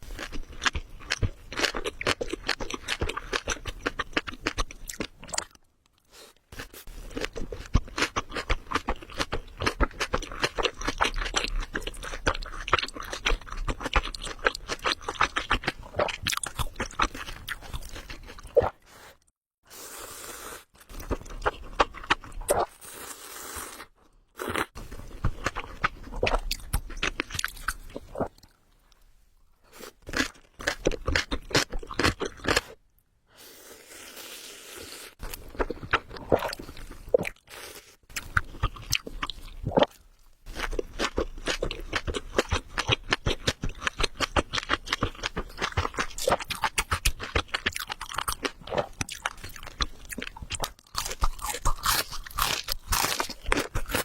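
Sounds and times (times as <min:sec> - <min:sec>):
person chewing crunchy food: 0:00.0 - 0:18.9, 0:20.4 - 0:29.0, 0:29.6 - 0:32.8, 0:33.6 - 0:54.0.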